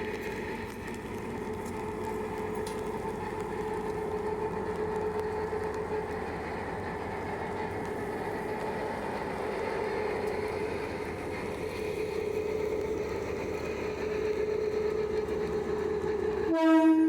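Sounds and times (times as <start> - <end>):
diesel locomotive running: 0.0 - 17.0.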